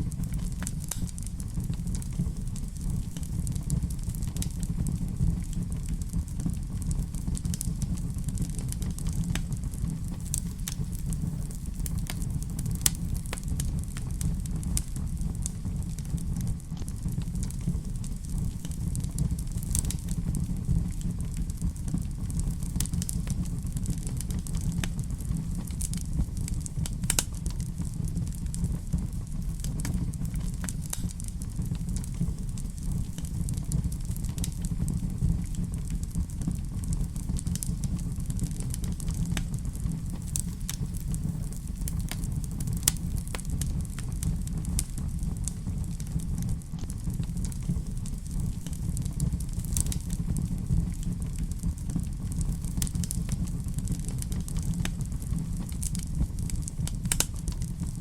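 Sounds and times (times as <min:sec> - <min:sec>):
fire crackling and popping: 0:00.0 - 0:58.0
wood fire rumbling: 0:00.0 - 0:58.0.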